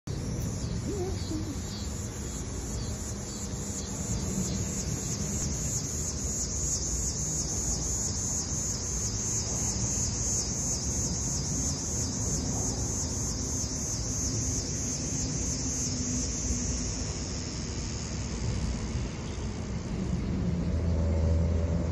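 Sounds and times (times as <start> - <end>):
insects buzzing in pulses: 0.1 - 21.9.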